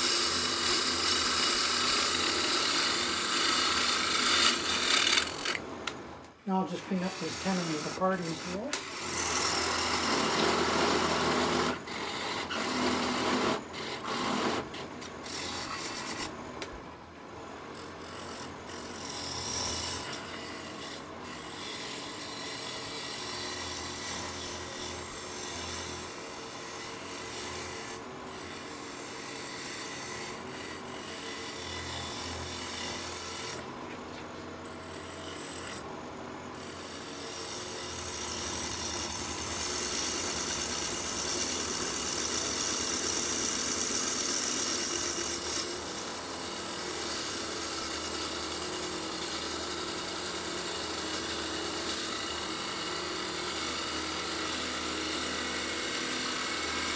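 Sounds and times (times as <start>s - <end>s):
turning tools cutting wood: 0.0s - 16.7s, 17.6s - 35.9s, 36.5s - 56.9s
lathe humming: 0.0s - 56.9s.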